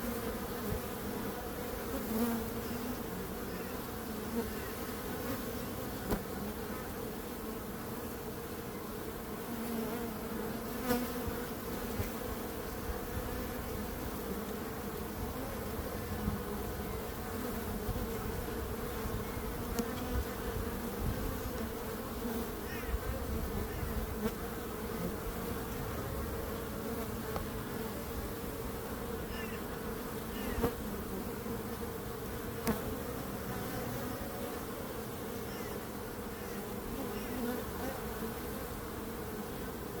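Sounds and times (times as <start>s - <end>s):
bees buzzing: 0.0s - 40.0s.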